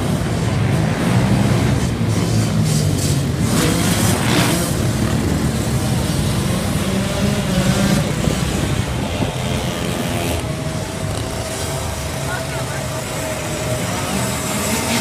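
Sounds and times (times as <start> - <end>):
motorcycle and quad engines: 0.0 - 15.0.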